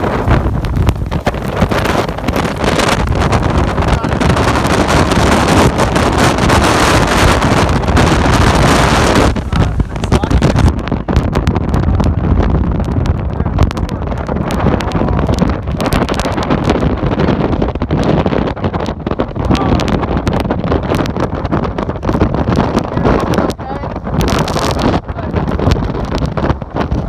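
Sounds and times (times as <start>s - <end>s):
strong gusty wind on microphone: 0.0s - 27.0s.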